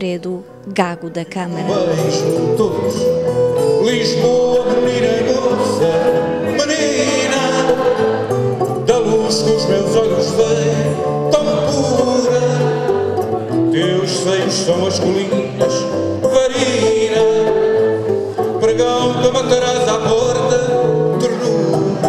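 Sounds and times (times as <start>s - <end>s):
guitar playing melody: 0.0s - 22.0s
guitar strumming chords: 0.0s - 22.0s.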